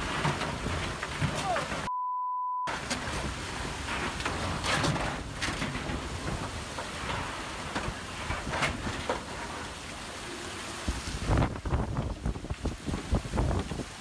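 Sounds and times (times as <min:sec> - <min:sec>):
gusting wind: 0:00.0 - 0:01.9, 0:02.7 - 0:14.0
wind-driven rain: 0:00.0 - 0:01.9, 0:02.7 - 0:14.0.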